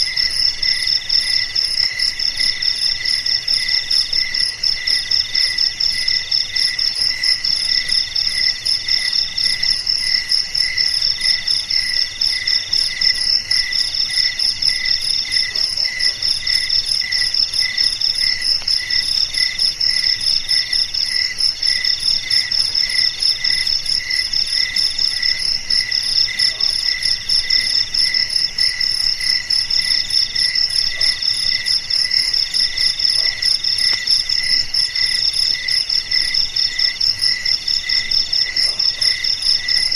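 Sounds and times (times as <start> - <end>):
crickets chirping: 0.0 - 39.9
high cricket chirping phrases: 0.0 - 39.9.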